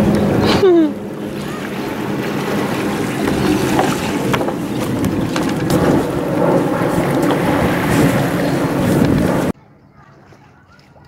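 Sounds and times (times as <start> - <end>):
water lapping against boats: 0.0 - 11.0
wind buffeting microphone: 0.0 - 11.0.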